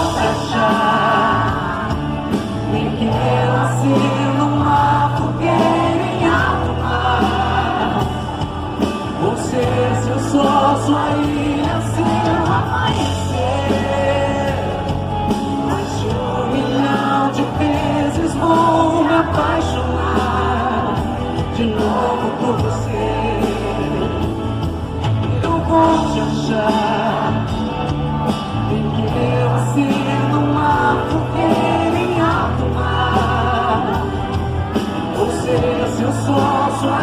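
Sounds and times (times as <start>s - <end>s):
held bass notes: 0.0s - 37.0s
live band music: 0.0s - 37.0s
person singing: 0.0s - 37.0s.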